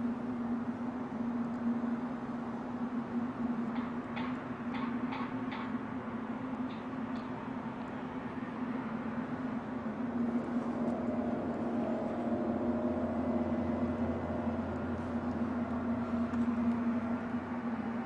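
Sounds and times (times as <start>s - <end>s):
low droning hum: 0.0s - 18.0s
noisy haze: 0.0s - 18.0s.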